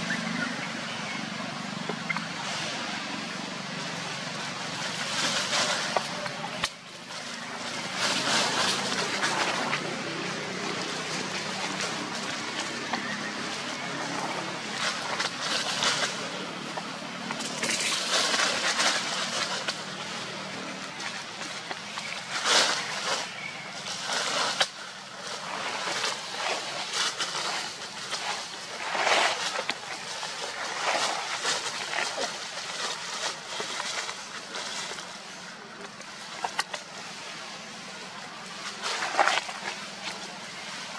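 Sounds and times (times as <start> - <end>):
dry leaves rustling and crunching: 0.0 - 40.9.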